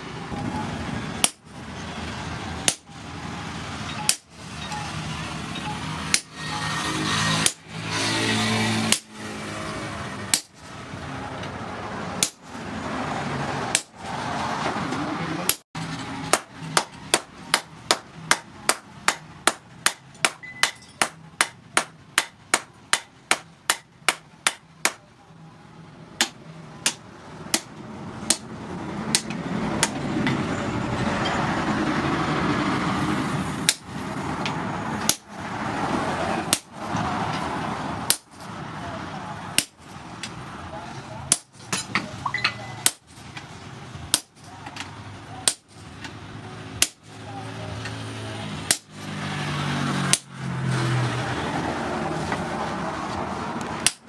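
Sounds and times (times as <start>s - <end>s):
steady background noise: 0.0s - 54.0s.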